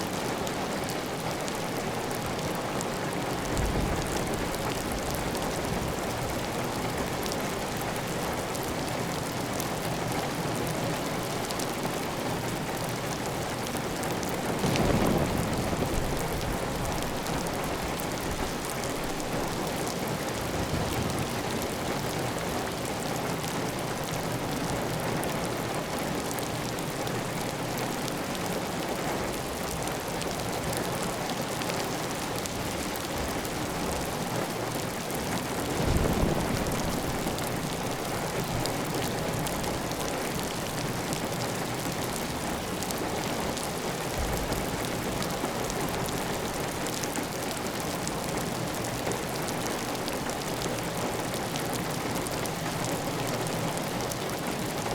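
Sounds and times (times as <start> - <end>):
heavy rain on a tiled roof: 0.0 - 54.9.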